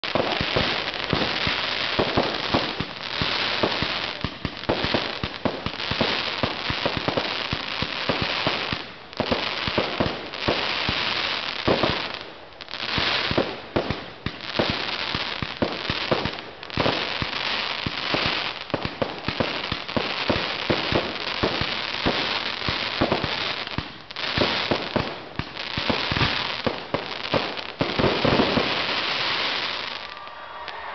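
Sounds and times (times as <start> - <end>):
fireworks hissing and crackling: 0.0 - 30.9.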